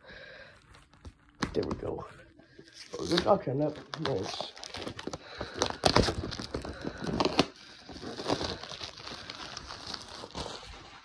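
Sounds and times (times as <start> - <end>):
wrapping paper tearing and crinkling: 0.4 - 11.0.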